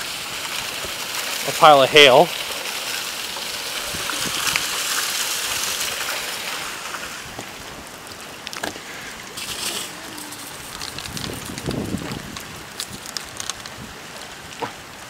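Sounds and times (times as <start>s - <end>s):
water running off: 0.0s - 14.8s
rain falling: 0.0s - 15.0s.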